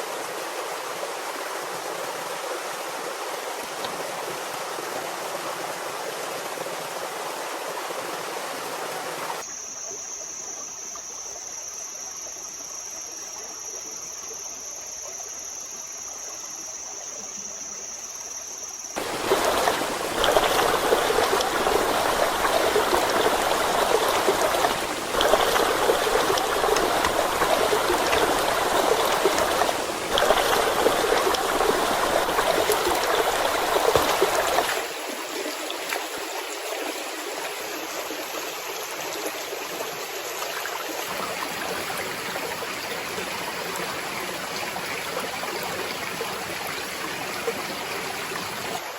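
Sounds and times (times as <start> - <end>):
stream water rushing: 0.0 - 9.4, 19.0 - 48.9.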